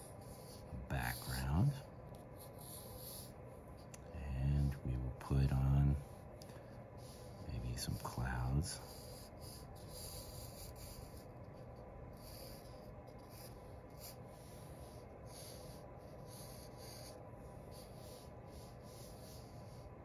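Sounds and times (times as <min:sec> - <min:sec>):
felt-tip marker drawing on paper: 0:00.0 - 0:20.0.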